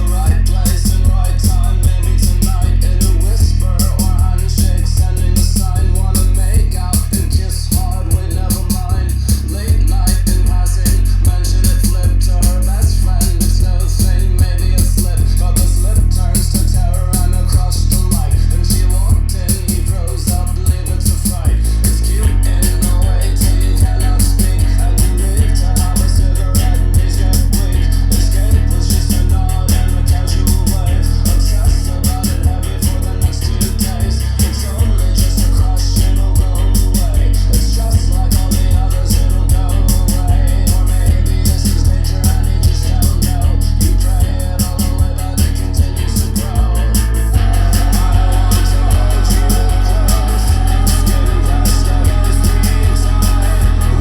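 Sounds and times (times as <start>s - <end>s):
rock song through speakers: 0.0s - 54.0s.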